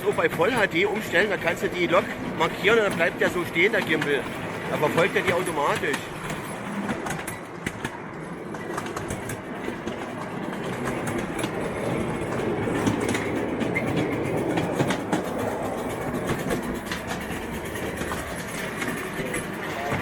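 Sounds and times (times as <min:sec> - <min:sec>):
model train wheels clicking on rails: 0:00.0 - 0:20.0.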